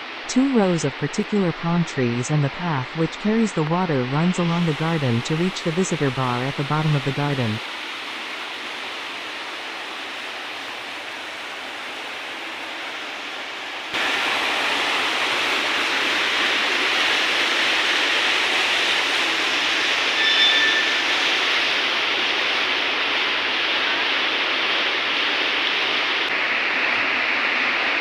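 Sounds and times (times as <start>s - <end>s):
waterfall rushing and splashing: 4.5s - 28.0s.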